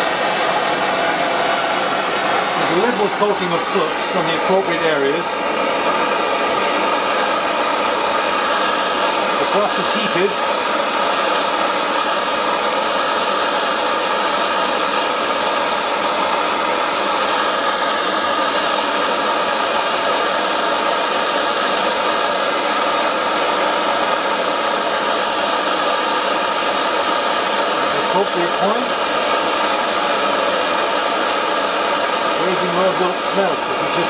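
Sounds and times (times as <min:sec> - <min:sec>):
gas torch hissing: 0:00.0 - 0:34.0.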